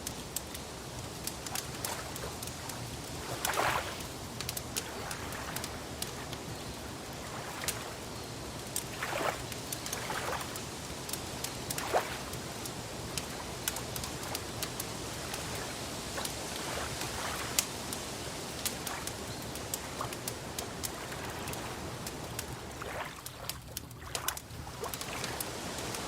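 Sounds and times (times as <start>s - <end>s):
wood fire crackling: 0.0s - 26.0s
water sloshing: 1.0s - 8.1s, 8.7s - 26.0s.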